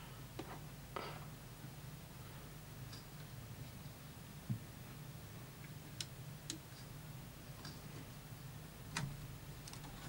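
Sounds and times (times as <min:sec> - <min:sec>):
faint steady low hum: 0:00.0 - 0:10.0.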